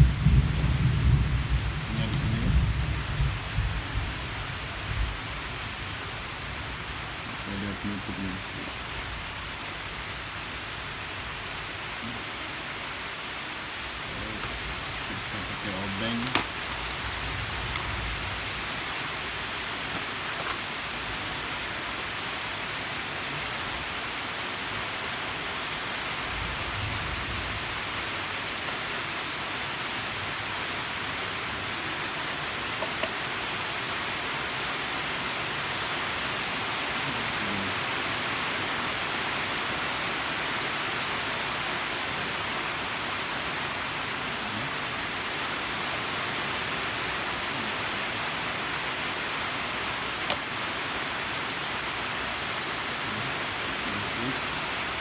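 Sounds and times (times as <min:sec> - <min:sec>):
background hiss: 0:00.0 - 0:55.0.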